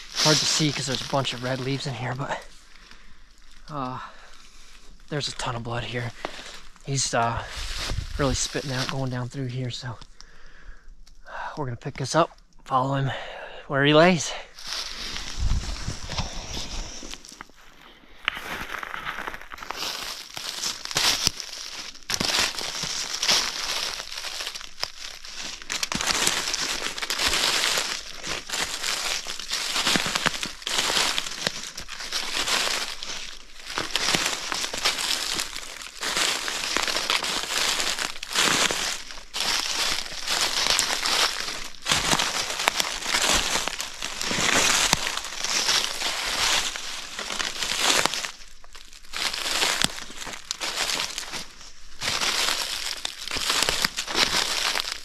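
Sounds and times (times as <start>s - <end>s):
footsteps crunching through leaves: 0.0s - 9.9s, 14.1s - 55.0s.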